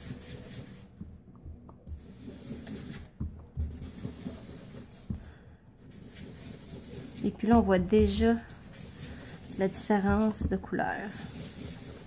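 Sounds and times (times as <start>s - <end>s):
sponge scrubbing on paper: 0.0s - 1.0s, 2.0s - 5.2s, 5.8s - 12.0s.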